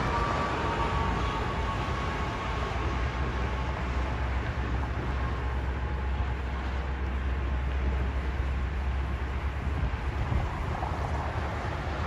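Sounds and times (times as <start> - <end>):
highway traffic hiss and rumble: 0.0 - 12.0.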